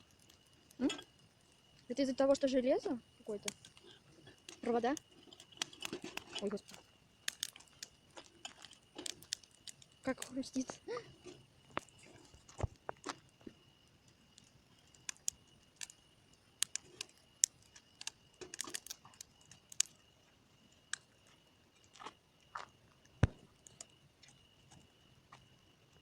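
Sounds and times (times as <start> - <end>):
bonfire crackling: 0.0 - 26.0.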